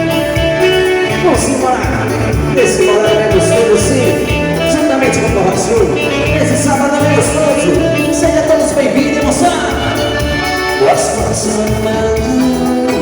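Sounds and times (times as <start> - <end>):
live band playing bolero: 0.0 - 13.0.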